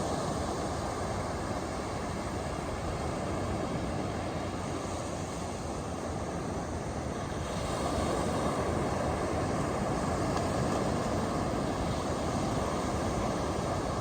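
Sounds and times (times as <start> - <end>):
ocean surf breaking on beach: 0.0 - 14.0.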